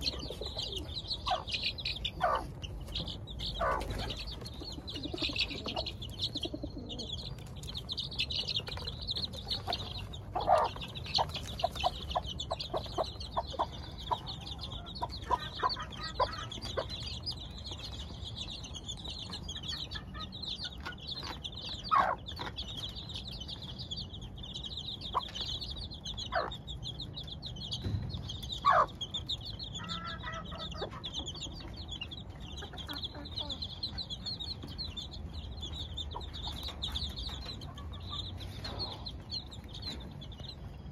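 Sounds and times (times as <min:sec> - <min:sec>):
chicks peeping: 0:00.0 - 0:40.9
hen clucking: 0:00.0 - 0:40.9.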